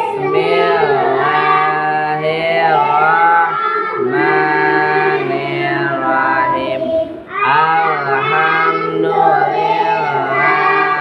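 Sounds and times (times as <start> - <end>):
group of voices chanting: 0.0 - 11.0.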